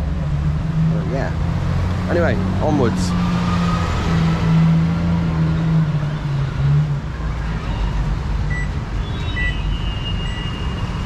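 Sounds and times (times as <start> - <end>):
vehicle engine humming: 0.0 - 9.7
traffic noise: 0.0 - 11.0.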